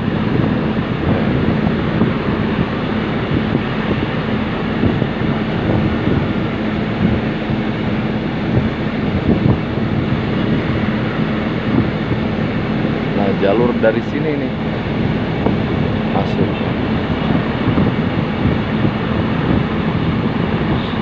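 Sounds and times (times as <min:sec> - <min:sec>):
low vehicle hum: 0:00.0 - 0:21.0
wind rushing over microphone: 0:00.0 - 0:21.0.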